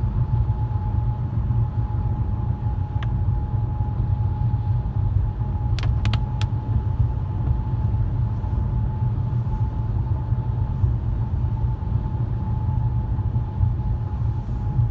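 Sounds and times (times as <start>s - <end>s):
faint steady whine: 0.0s - 14.9s
road and engine rumble: 0.0s - 14.9s.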